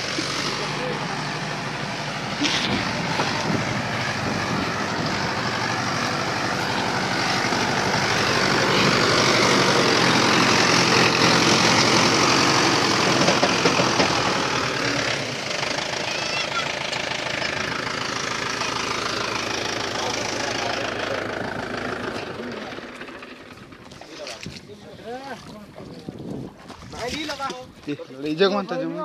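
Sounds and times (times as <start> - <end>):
tractor diesel engine under load: 0.0 - 27.6.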